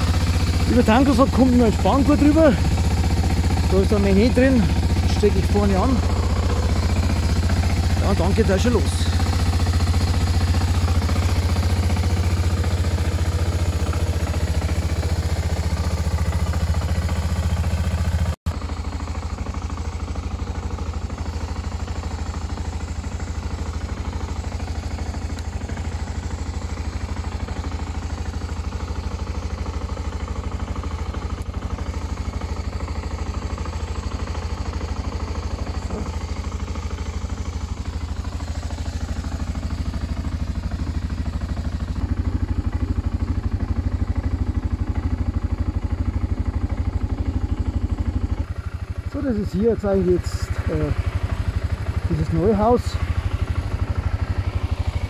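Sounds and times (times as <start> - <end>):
motorcycle engine idling: 0.0 - 55.0
motorcycle pulling away: 0.0 - 55.0.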